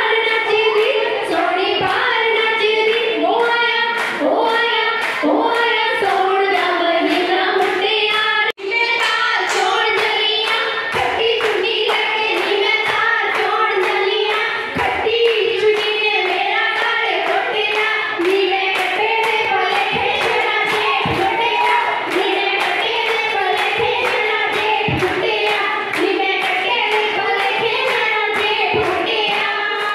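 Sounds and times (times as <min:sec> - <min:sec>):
rhythmic hand-clapping: 0:00.0 - 0:29.9
women singing folk songs: 0:00.0 - 0:29.9.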